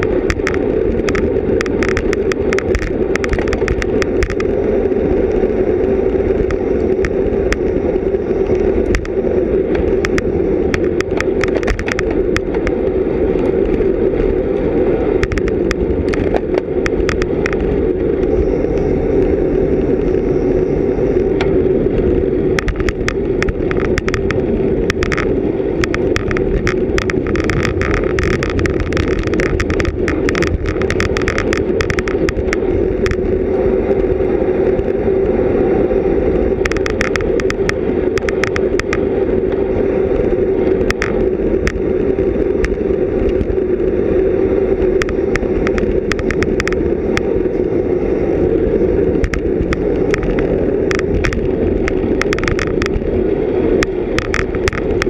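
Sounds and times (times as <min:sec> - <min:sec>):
bicycle clicks and rattles: 0:00.0 - 0:55.0
wind and tyre noise: 0:00.0 - 0:55.0.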